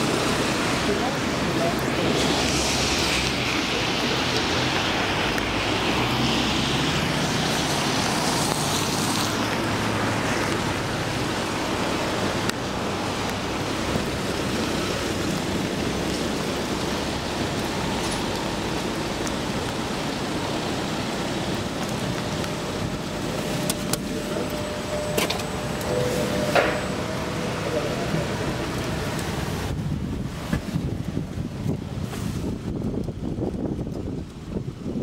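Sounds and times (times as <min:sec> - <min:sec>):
traffic on wet road: 0:00.0 - 0:35.0.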